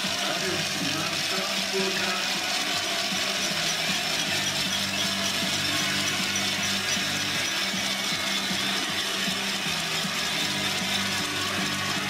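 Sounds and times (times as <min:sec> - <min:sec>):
crowd noise: 0:00.0 - 0:12.0
small rattling clicks: 0:00.0 - 0:12.0.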